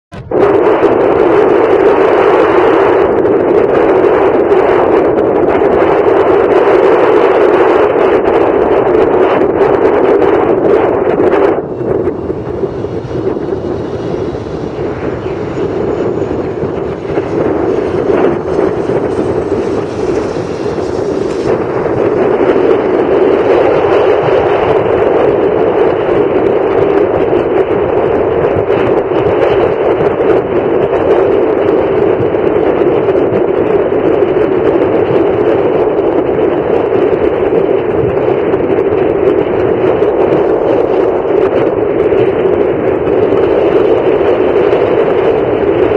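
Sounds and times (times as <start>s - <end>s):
jet engines roaring: 0.1s - 45.9s.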